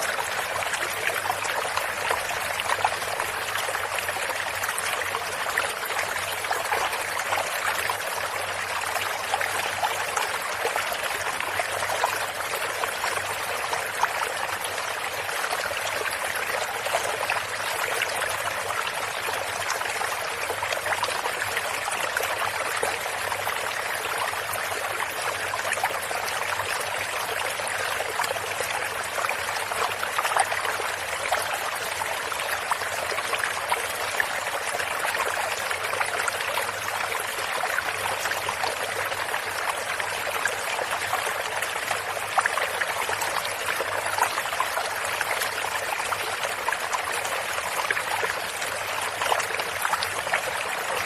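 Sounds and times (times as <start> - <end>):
water babbling over stones: 0.0 - 51.0.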